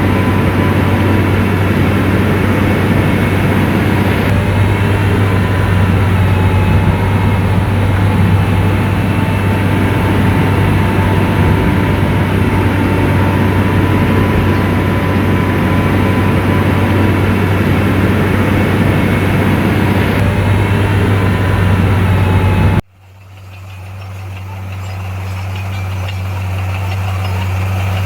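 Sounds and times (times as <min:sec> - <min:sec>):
thin high whine: 0:00.0 - 0:22.8
diesel engine running: 0:00.0 - 0:28.0.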